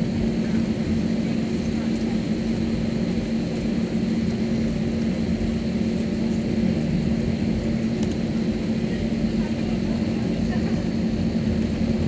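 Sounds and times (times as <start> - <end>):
jet engines humming in cabin: 0.0 - 12.0.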